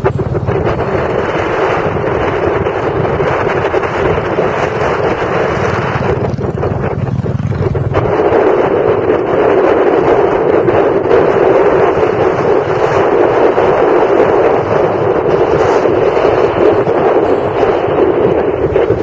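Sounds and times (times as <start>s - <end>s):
motorcycle engine beat: 0.0s - 19.0s
wind rushing on microphone: 0.0s - 19.0s.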